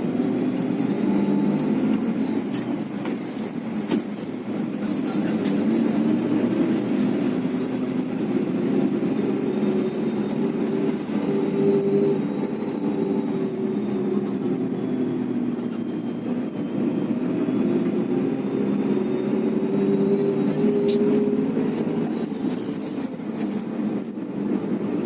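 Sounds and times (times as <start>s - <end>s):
bus engine rumble: 0.0s - 25.0s
road noise: 0.0s - 25.0s.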